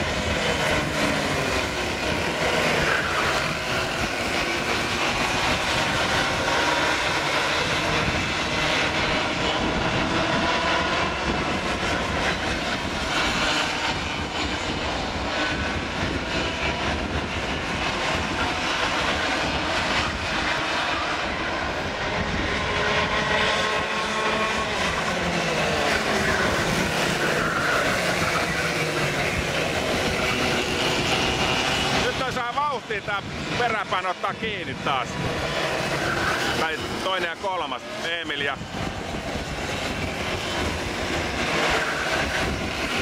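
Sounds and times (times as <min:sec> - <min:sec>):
racing kart engines passing: 0:00.0 - 0:43.0.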